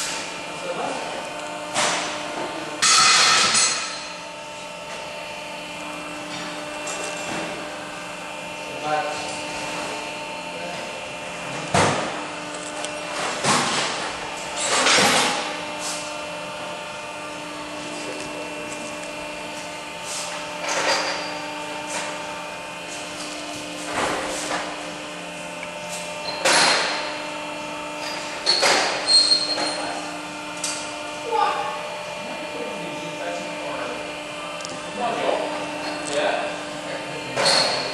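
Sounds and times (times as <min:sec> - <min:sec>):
machine humming: 0:00.0 - 0:37.9.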